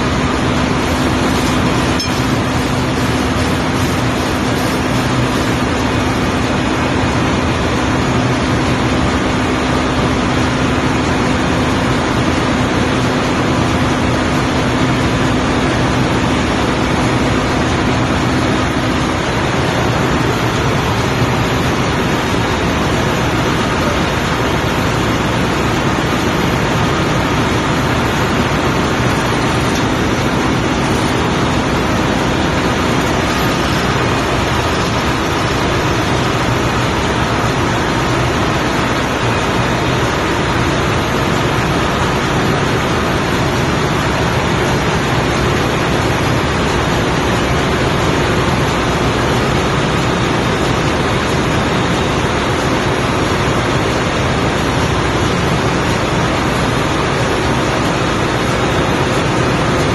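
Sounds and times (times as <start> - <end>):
engine-room machinery running: 0.0 - 59.9
steady hum: 0.0 - 59.9.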